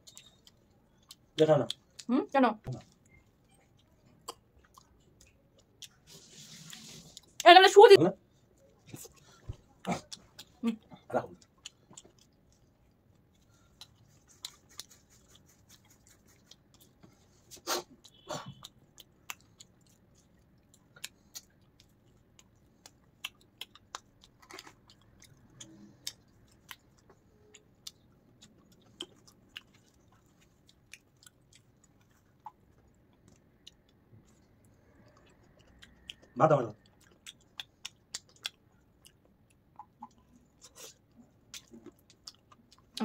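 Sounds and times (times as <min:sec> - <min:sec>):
person chewing pizza: 0:00.0 - 0:07.4, 0:08.3 - 0:43.0.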